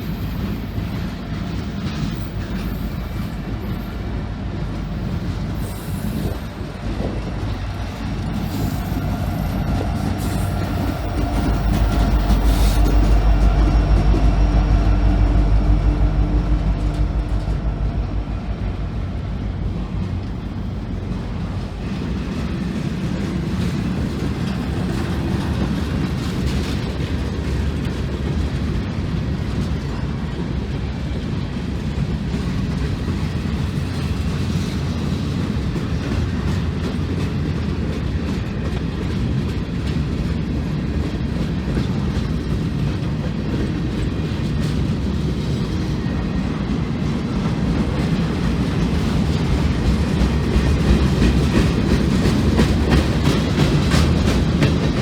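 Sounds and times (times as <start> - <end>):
freight train rolling past: 0.0 - 55.0
train wheels clicking: 0.0 - 55.0.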